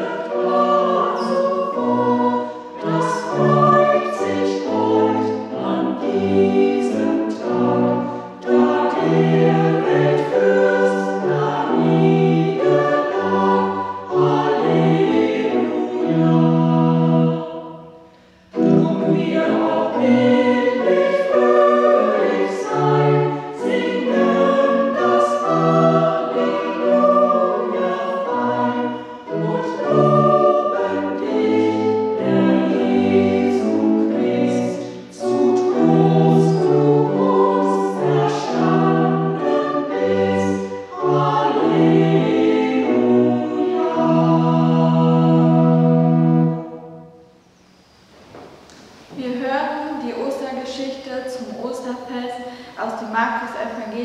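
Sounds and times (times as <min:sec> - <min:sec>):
choir singing a hymn: 0:00.0 - 0:47.4
church organ: 0:00.0 - 0:49.1.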